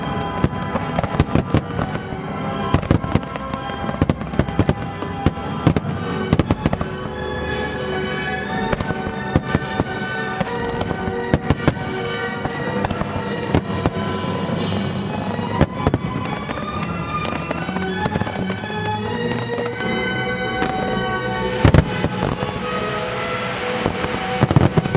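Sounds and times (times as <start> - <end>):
fireworks bangs: 0.0 - 24.9
music playing: 0.0 - 24.9.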